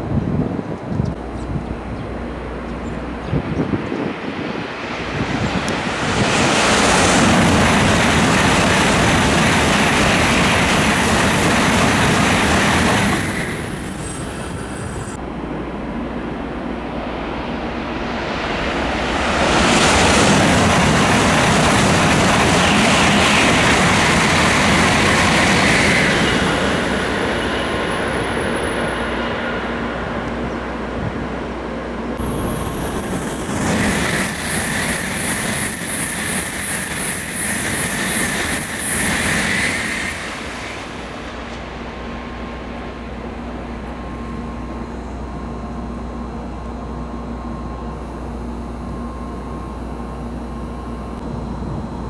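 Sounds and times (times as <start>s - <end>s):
high-speed train rushing roar: 0.0s - 52.0s.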